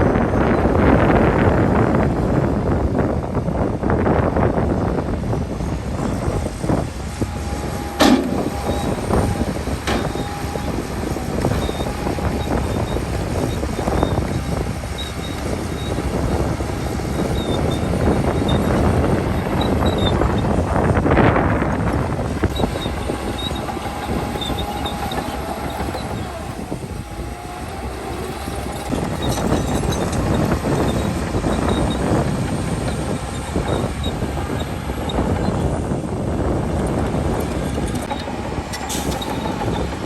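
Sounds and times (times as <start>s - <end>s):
heavy diesel machinery engine: 0.0s - 40.0s.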